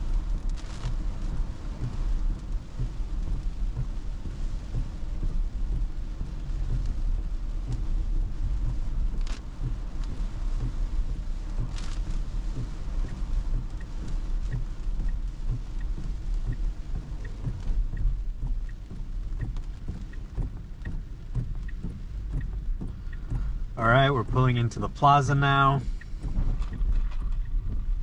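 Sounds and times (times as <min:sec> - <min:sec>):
rain hiss: 0:00.0 - 0:28.0
road and tyre rumble: 0:00.0 - 0:28.0
turn signal ticking: 0:00.0 - 0:28.0.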